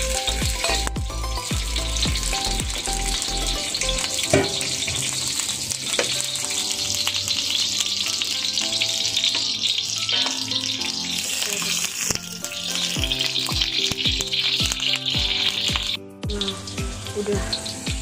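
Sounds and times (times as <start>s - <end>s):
garlic sizzling in oil: 0.0s - 18.0s.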